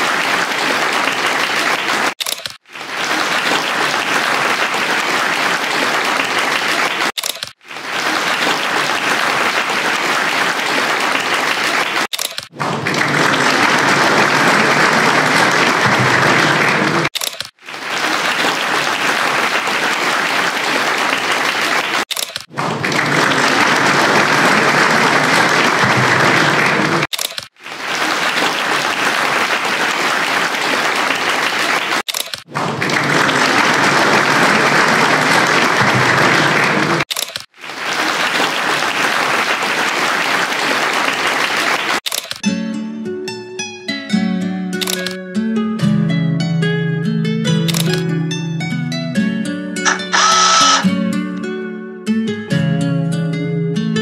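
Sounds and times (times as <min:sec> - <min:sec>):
audience applauding: 0:00.0 - 0:42.4, 0:44.8 - 0:45.2, 0:47.7 - 0:48.0, 0:49.9 - 0:50.9.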